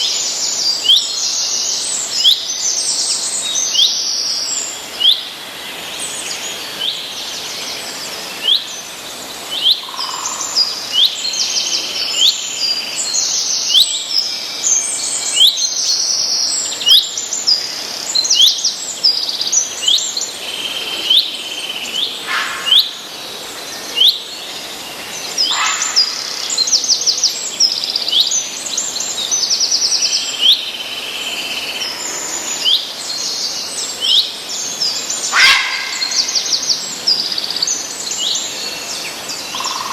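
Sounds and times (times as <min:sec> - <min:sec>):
faint background hiss: 0:00.0 - 0:39.9
songbirds chirping: 0:00.0 - 0:39.9.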